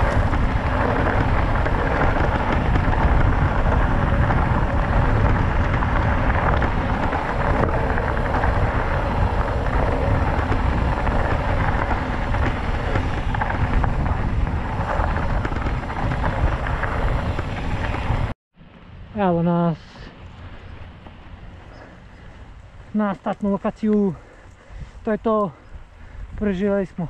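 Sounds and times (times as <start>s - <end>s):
wind buffeting microphone: 0.0s - 19.1s, 20.1s - 27.0s.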